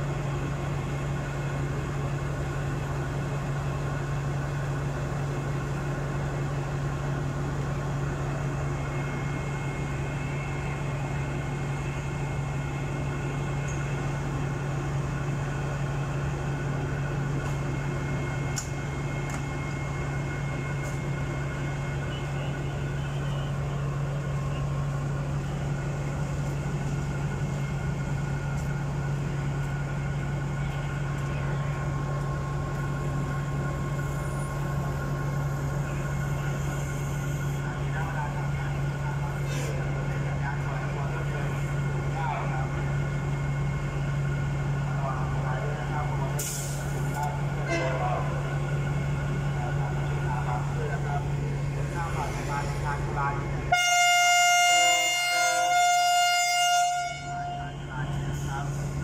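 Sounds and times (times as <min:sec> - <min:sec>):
diesel locomotive idling: 0:00.0 - 0:59.0.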